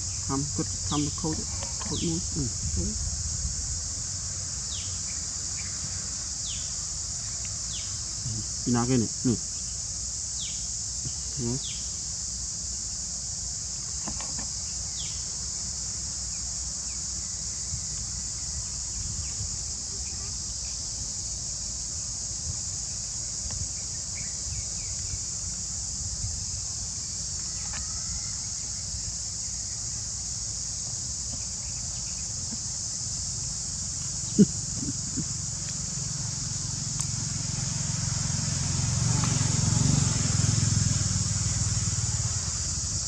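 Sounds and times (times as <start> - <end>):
insect chorus droning: 0.0 - 43.0.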